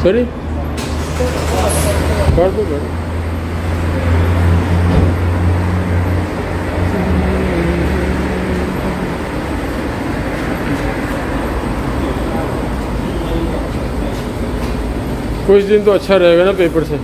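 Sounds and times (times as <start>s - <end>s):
loud low hum: 0.0s - 15.5s
car wash machinery din: 0.0s - 17.0s.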